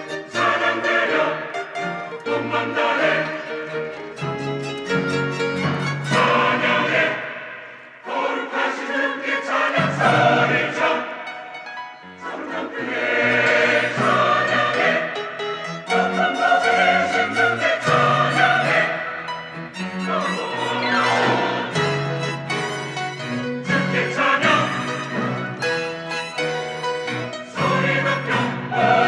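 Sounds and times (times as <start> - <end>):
instrumental accompaniment: 0.0 - 8.5, 9.4 - 29.0
choir singing in harmony: 0.0 - 29.0.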